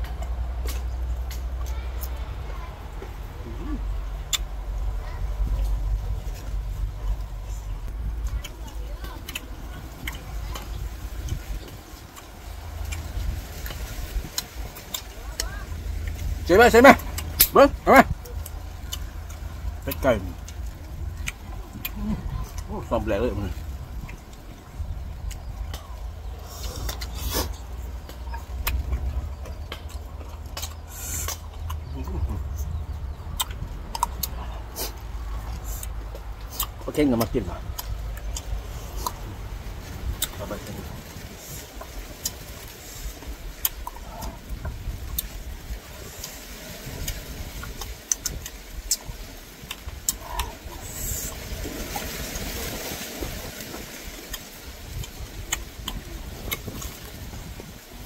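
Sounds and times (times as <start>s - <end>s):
crisp chewing crunches: 0.0s - 17.5s, 18.1s - 52.1s
steady low rumble: 0.0s - 58.0s.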